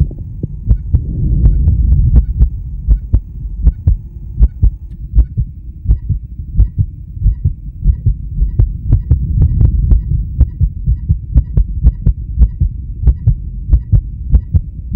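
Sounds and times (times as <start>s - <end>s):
heartbeat thumps: 0.0s - 14.9s
low rumble: 0.0s - 14.9s.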